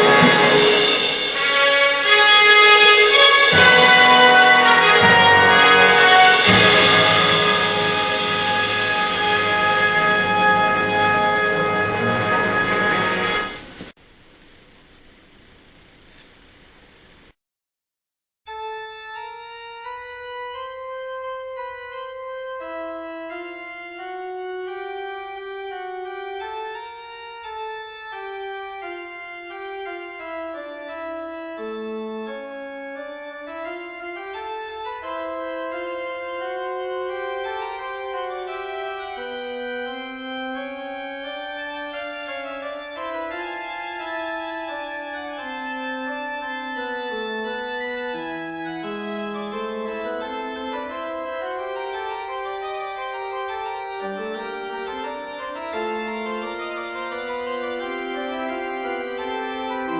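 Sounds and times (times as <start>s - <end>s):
organ fugue: 0.0s - 17.4s, 18.5s - 59.9s.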